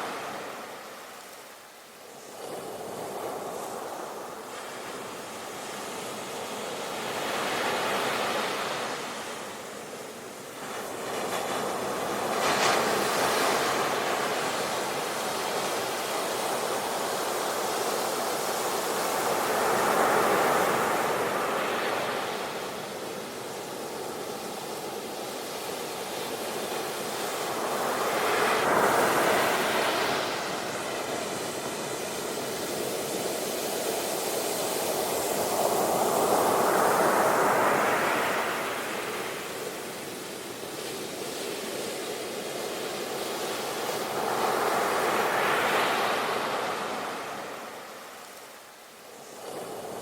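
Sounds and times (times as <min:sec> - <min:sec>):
waves breaking and washing ashore: 0:00.0 - 0:50.0.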